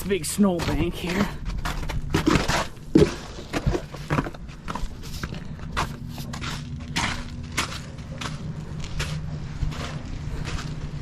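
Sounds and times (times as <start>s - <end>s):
footsteps crunching through snow: 0.0s - 11.0s.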